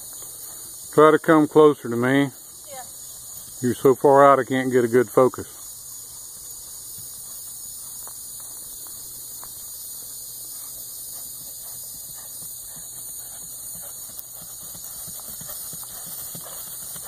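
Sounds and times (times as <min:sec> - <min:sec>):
horse hoofbeats on grass: 0:00.0 - 0:17.0
steady hiss: 0:00.0 - 0:17.0.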